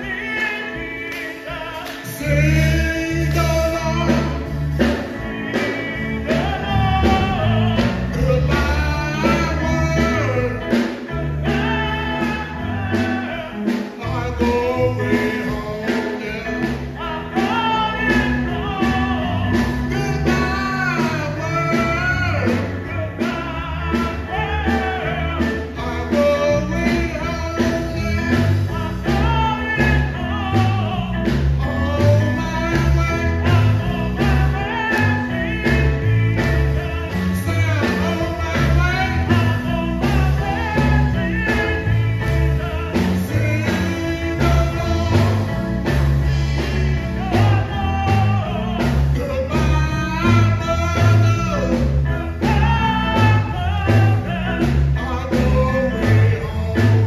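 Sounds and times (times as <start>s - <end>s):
band with strong bass: 0.0s - 57.0s
person singing into microphone: 0.0s - 57.0s.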